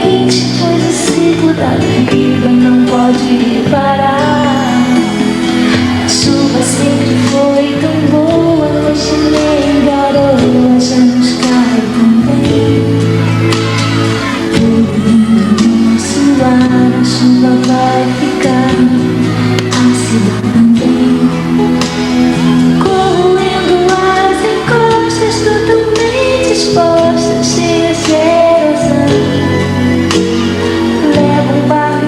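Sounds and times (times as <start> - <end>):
live pop band playing: 0.0 - 32.0
person singing: 0.0 - 32.0
steady bass: 0.0 - 32.0.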